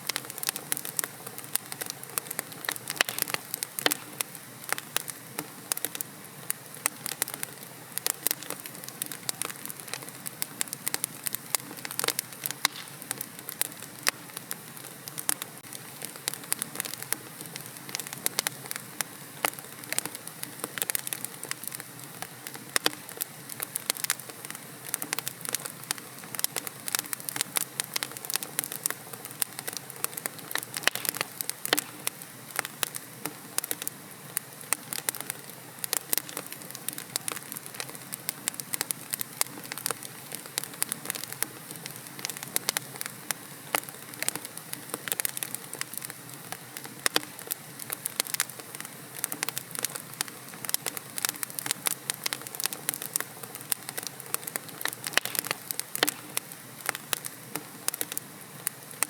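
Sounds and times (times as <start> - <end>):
fire hissing: 0.0 - 59.0
wood crackling and popping: 0.0 - 59.0.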